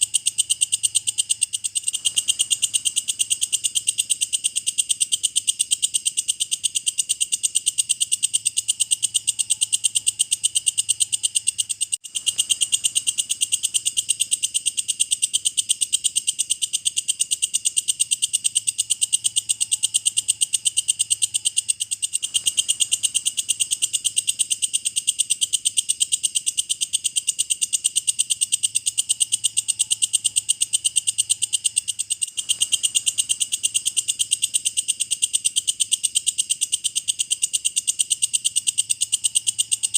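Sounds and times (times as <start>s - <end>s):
insect chirring: 0.0s - 39.9s.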